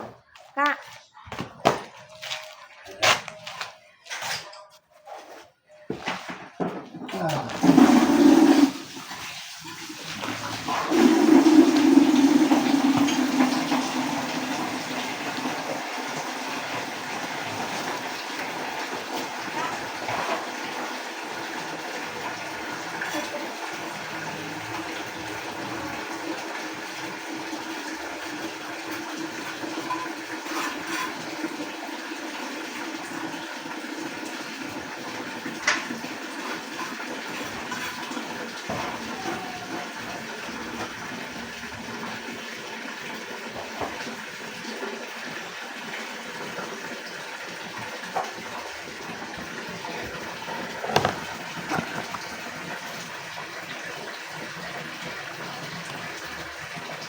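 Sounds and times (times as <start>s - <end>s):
water running into a container: 7.3s - 57.0s.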